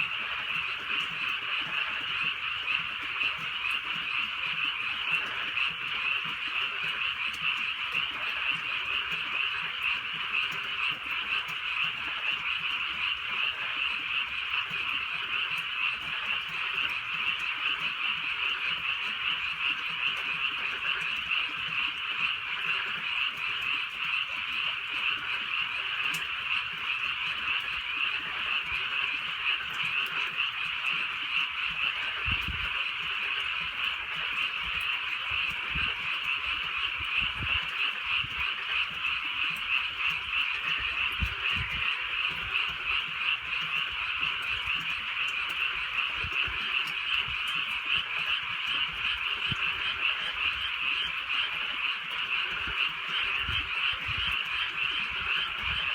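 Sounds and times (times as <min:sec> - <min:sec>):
chorus of frogs croaking: 0:00.0 - 0:55.9.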